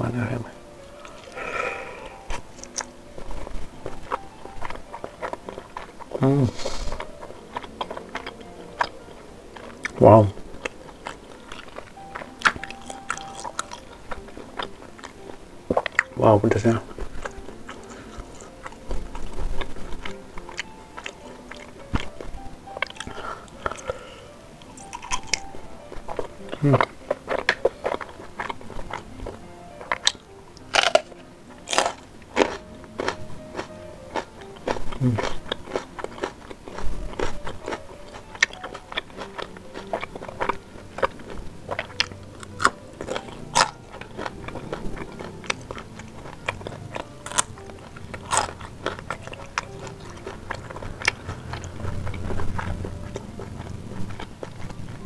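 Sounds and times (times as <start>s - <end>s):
close chewing with wet clicks: 0.8s - 1.5s, 2.2s - 55.0s.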